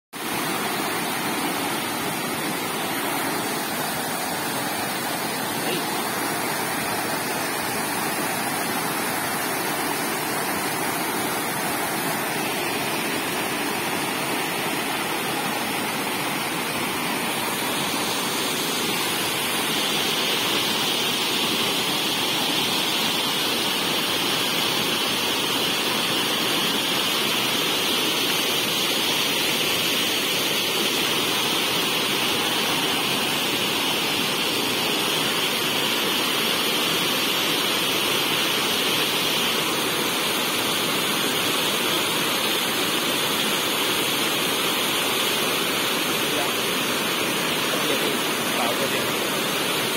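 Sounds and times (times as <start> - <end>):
white water rushing over rocks: 0.2 - 49.9.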